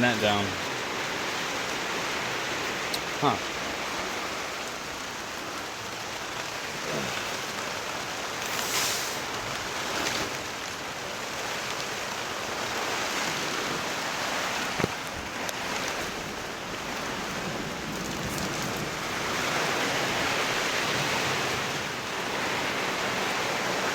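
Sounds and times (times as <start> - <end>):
heavy rain on a greenhouse: 0.0 - 23.9.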